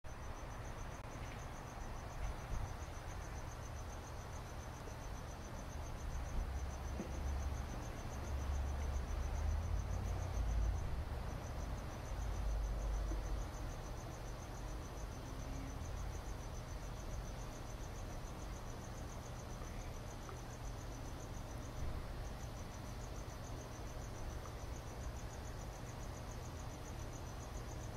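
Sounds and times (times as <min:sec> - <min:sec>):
crickets chirping: 0:00.1 - 0:27.9.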